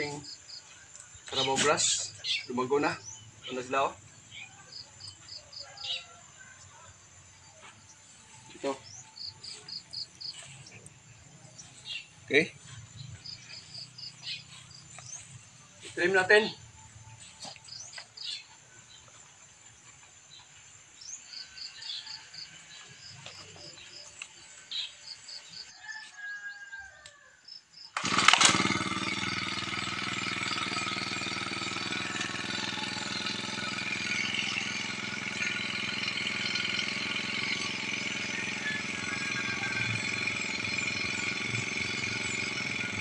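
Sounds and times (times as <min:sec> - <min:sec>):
brush cutter engine running: 0:00.0 - 0:06.0, 0:06.6 - 0:25.7, 0:28.0 - 0:43.0.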